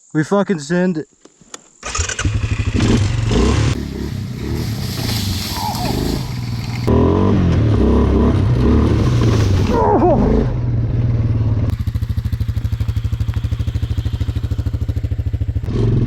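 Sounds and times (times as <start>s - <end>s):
atv engine under throttle: 1.8s - 16.0s.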